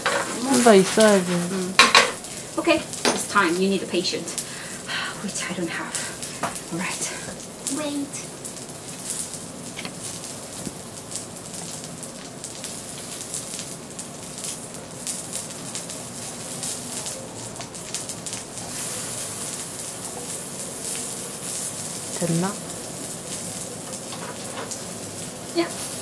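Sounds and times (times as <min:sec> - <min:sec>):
pancake sizzling in oil: 0:00.0 - 0:26.0.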